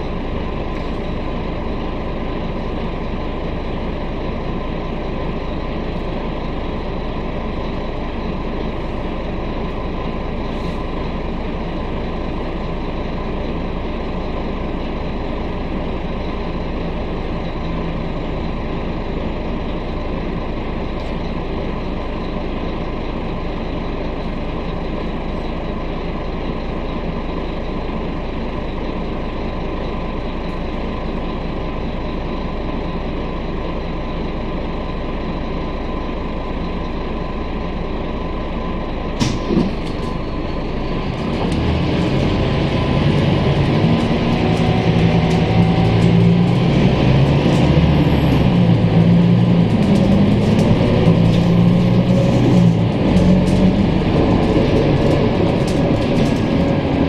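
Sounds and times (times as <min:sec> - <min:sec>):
bus engine idling and accelerating: 0:00.0 - 0:57.0.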